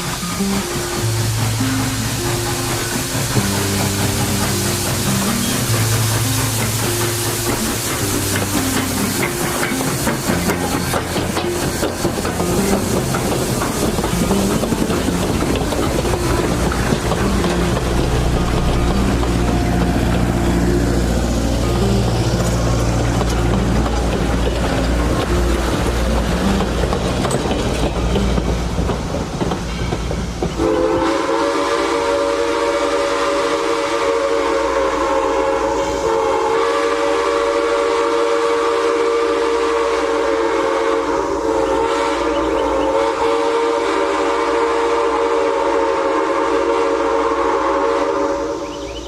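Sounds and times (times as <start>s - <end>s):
steam whistle chord: 0.0s - 27.0s, 30.6s - 49.0s
steam locomotive rumbling: 0.0s - 49.0s.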